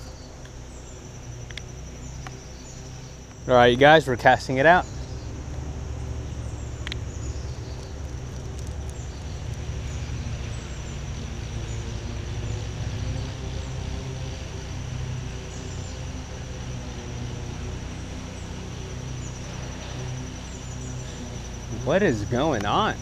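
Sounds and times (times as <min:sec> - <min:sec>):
insect trill: 0:00.0 - 0:23.0
lawn mower engine droning: 0:00.0 - 0:23.0.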